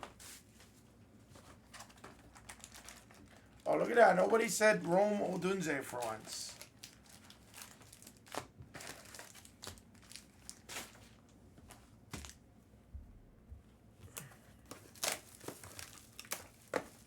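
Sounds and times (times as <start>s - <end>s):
wrappers crinkling and tearing: 1.2s - 12.4s, 14.2s - 17.0s.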